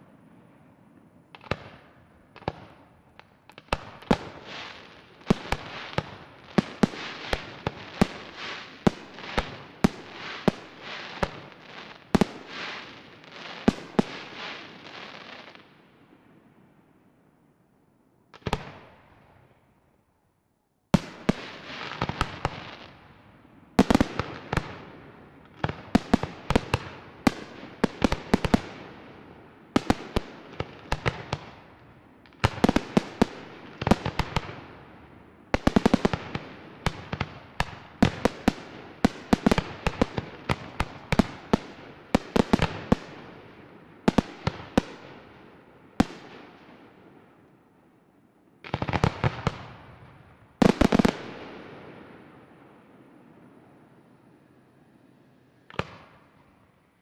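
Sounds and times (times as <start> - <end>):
fireworks bursting with sharp bangs: 0.0 - 16.5, 18.3 - 19.6, 20.9 - 47.4, 48.6 - 56.7.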